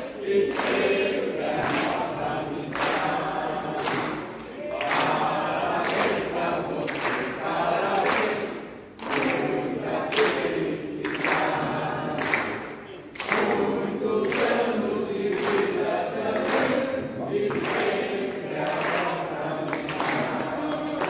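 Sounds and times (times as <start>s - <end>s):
group of people singing: 0.0s - 21.0s
hand-clapping: 0.2s - 21.0s.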